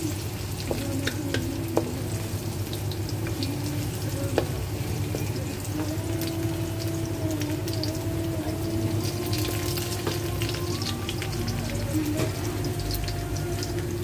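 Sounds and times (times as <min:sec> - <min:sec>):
shallots frying in hot oil: 0:00.0 - 0:14.0.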